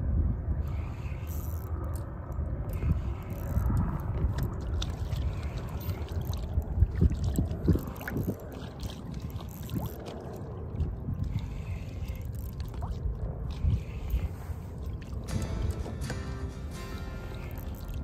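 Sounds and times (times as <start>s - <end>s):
wind buffeting microphone: 0.0s - 18.0s
water lapping and splashing: 0.7s - 18.0s.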